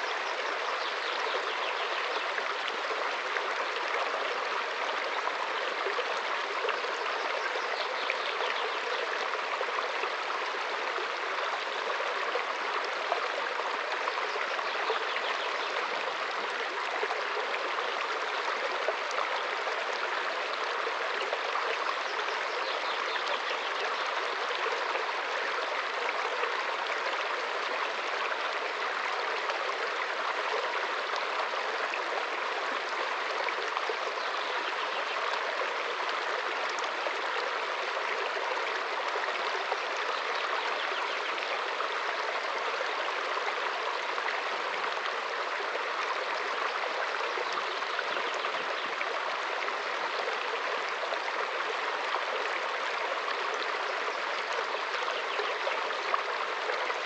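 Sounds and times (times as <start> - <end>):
brook running over stones: 0.0 - 57.0.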